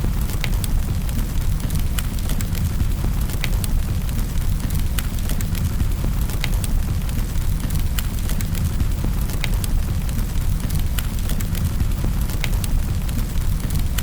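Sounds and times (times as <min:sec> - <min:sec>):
fire crackling and popping: 0:00.0 - 0:14.0
fire low rumble: 0:00.0 - 0:14.0.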